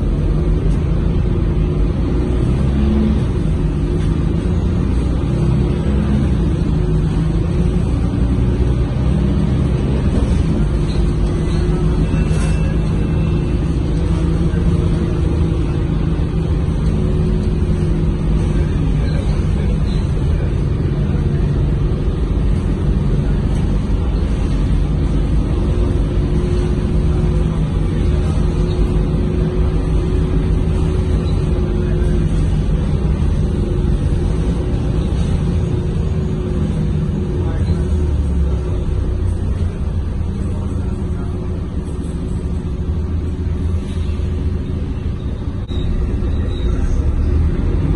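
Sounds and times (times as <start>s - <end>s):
bus diesel engine drone: 0.0s - 47.9s
road and tyre rumble: 0.0s - 47.9s.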